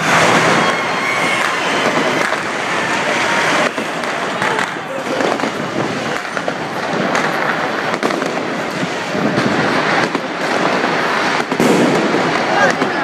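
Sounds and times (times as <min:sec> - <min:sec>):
fireworks crackling bangs: 0:00.0 - 0:13.0.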